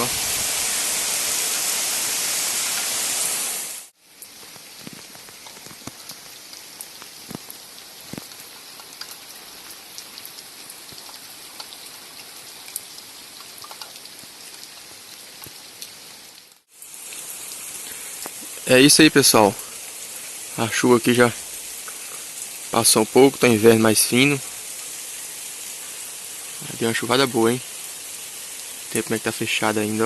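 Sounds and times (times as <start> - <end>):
heavy rain hissing: 0.0 - 30.0
light rain drops ticking: 4.0 - 30.0.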